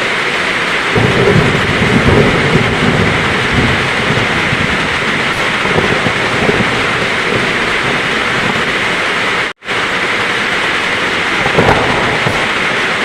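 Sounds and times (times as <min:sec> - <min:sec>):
heavy rain: 0:00.0 - 0:13.0
thunder rumbling: 0:00.0 - 0:13.0.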